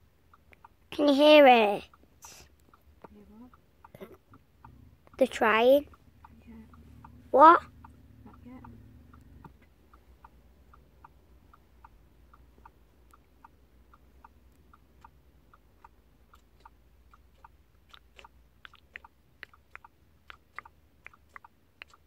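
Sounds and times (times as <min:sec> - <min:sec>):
faint regular ticking: 0:00.0 - 0:22.0
low steady hum: 0:00.0 - 0:22.0
sharp irregular clicks: 0:00.0 - 0:22.0.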